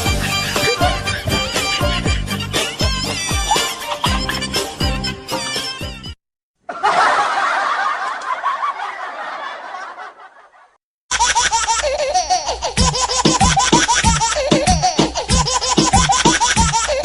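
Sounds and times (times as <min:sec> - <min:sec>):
canned laughter: 0:00.0 - 0:05.3, 0:06.7 - 0:17.0.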